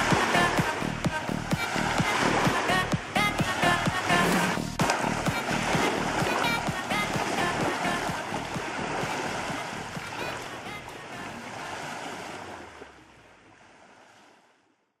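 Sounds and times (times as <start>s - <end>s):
lake water lapping: 0.0s - 14.8s
wind: 0.0s - 15.0s.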